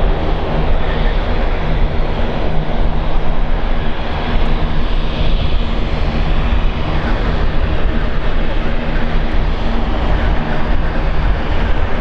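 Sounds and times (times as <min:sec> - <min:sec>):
airliner engines running: 0:00.0 - 0:12.0
wind buffeting microphone: 0:00.0 - 0:12.0.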